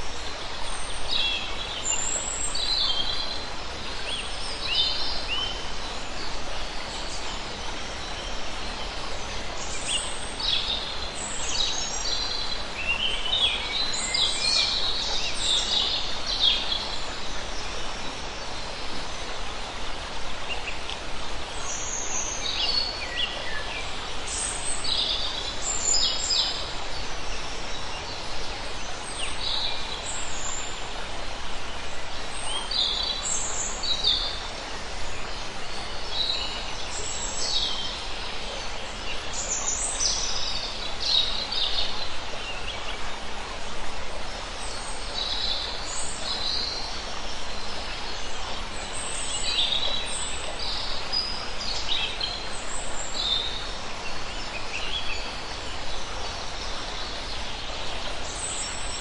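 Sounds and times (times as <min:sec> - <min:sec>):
rocky stream running: 0:00.0 - 0:59.0.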